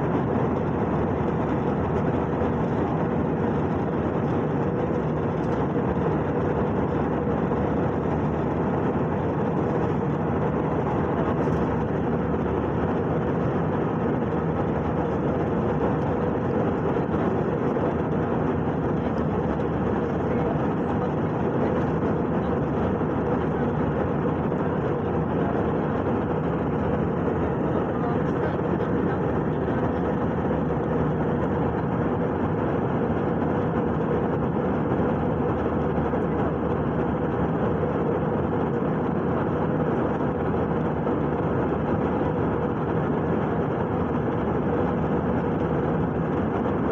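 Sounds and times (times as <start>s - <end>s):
jet engine and airflow roar: 0.0s - 46.9s.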